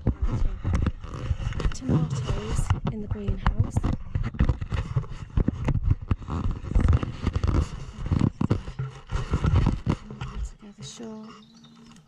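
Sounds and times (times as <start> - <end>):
camera handling scrapes and knocks: 0.0 - 12.0.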